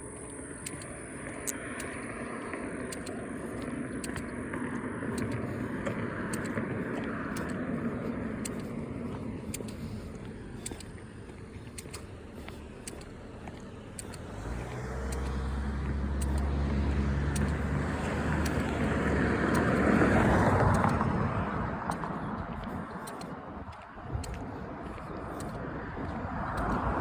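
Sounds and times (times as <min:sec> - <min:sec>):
car engine hum: 0:00.0 - 0:27.0
tyre and road noise: 0:00.0 - 0:27.0.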